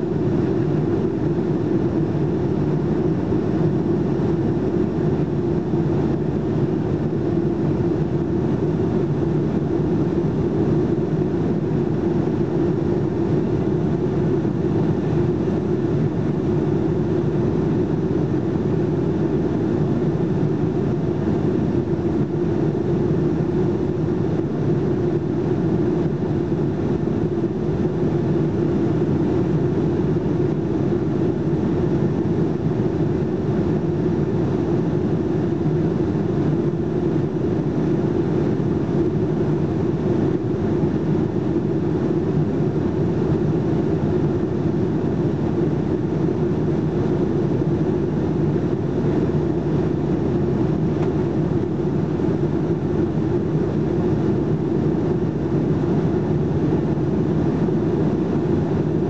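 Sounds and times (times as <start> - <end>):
airplane cabin roar: 0.0 - 59.0.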